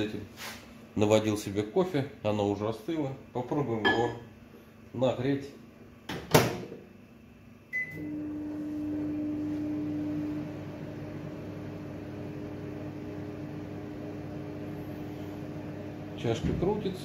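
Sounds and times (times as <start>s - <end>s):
microwave oven humming: 0.8s - 17.0s.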